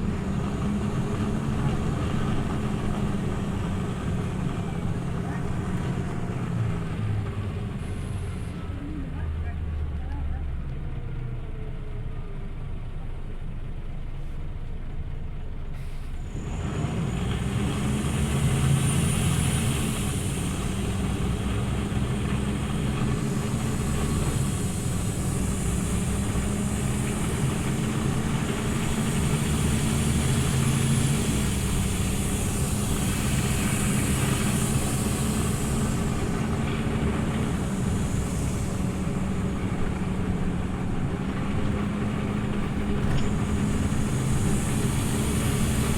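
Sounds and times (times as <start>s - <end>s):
bus engine and drivetrain: 0.0s - 45.9s.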